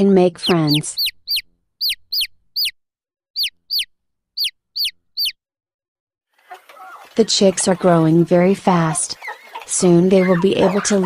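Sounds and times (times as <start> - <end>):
baby chicks peeping: 0.0 - 2.8, 3.4 - 5.4, 6.4 - 11.0.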